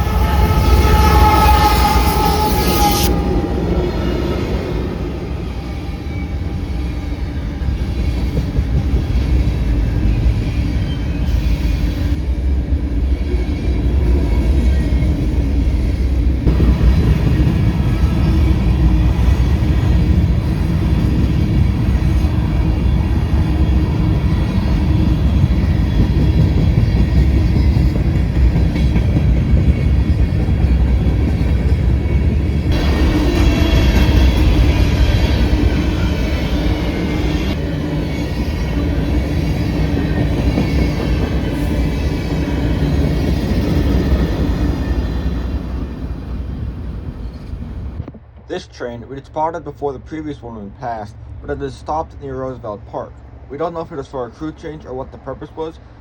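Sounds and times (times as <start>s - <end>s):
train wheels rumbling on rail: 0.0s - 48.5s.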